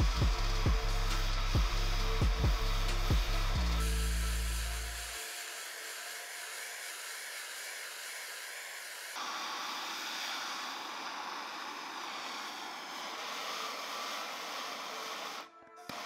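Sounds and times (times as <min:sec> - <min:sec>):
torch flame hissing: 0:00.0 - 0:16.0.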